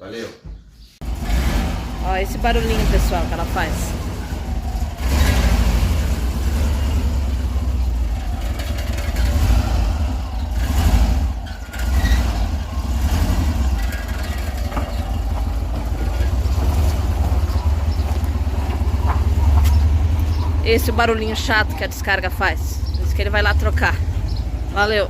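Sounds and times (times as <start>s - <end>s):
exhaust banging and rattling: 0.4s - 25.0s
van engine running: 1.0s - 25.0s.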